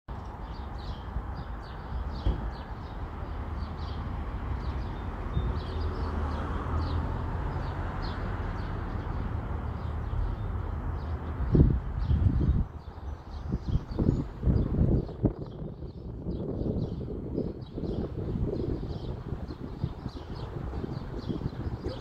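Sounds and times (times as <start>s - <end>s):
songbirds chirping: 0.1s - 22.0s.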